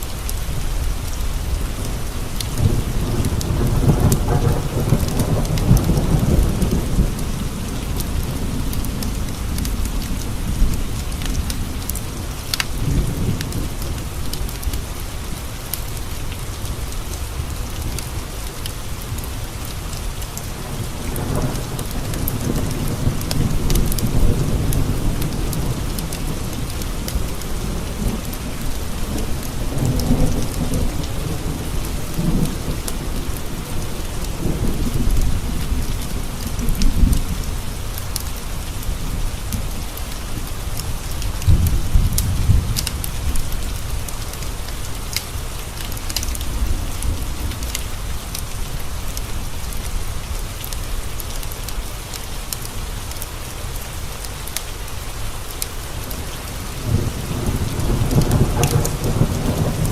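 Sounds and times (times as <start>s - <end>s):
steady rain falling: 0.0s - 59.9s
thunder rumbling: 0.5s - 15.5s, 20.3s - 50.0s, 56.1s - 59.9s.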